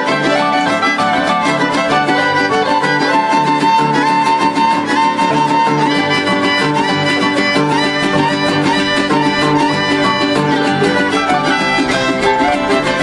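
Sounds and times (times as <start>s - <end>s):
violins playing lively melody: 0.0s - 13.0s.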